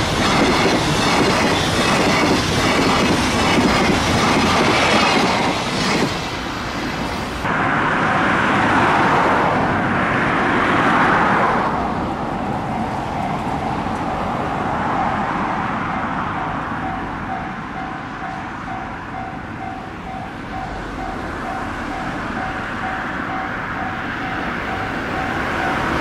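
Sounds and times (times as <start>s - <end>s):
express train rushing: 0.0s - 26.0s
freight train rumble: 0.0s - 26.0s.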